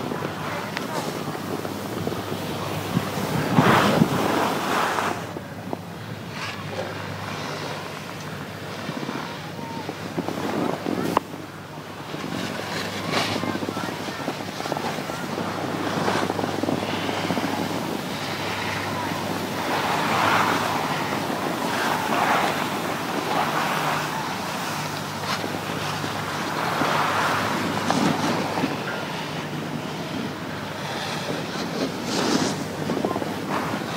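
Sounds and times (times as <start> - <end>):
wind buffeting microphone: 0.0 - 33.9
skis scraping over snow: 0.1 - 5.4, 8.8 - 11.4, 12.0 - 33.9.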